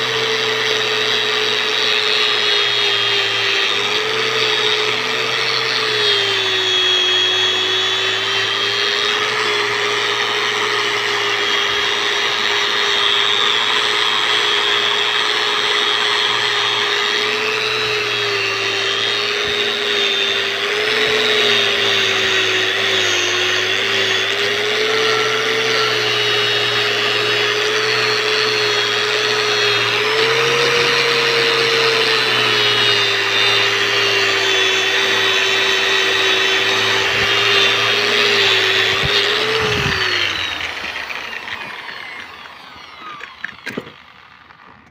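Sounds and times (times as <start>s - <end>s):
angle grinder wire brush on metal: 0.0s - 44.9s.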